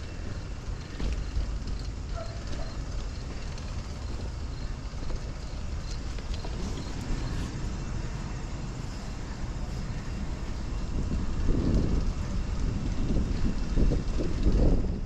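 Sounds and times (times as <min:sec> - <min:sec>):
street traffic: 0:00.0 - 0:15.0
wind rumbling over microphone: 0:00.0 - 0:15.0.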